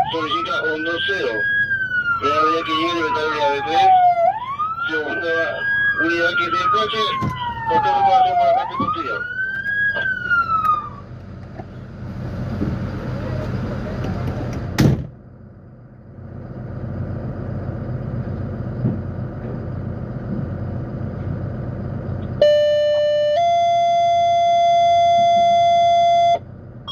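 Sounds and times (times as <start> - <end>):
fire engine engine and road noise: 0.0 - 26.9.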